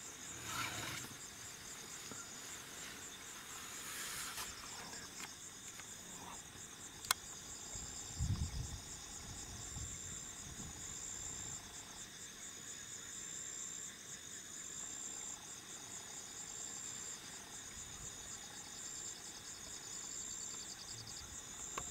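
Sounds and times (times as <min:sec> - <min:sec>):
insects trilling: 0:00.0 - 0:21.9.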